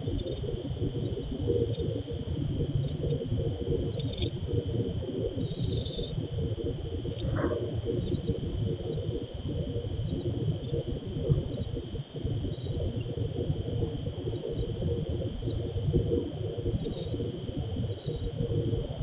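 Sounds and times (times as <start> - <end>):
crickets chirring: 0.0 - 19.0
low crackling rumble: 0.0 - 19.0.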